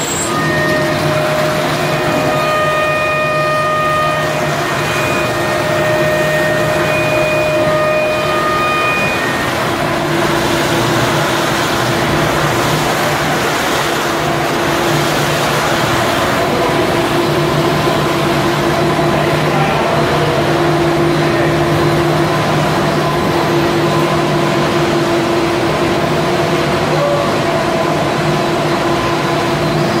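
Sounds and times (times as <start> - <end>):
factory machinery humming: 0.0 - 30.0
high machine whine: 0.0 - 30.0.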